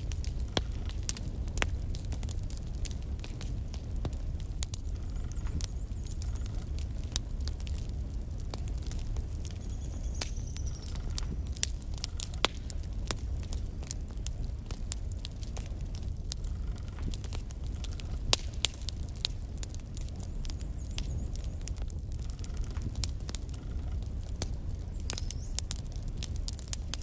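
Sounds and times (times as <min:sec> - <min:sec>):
logs crackling and popping: 0:00.0 - 0:27.0
low rumble of flames: 0:00.0 - 0:27.0.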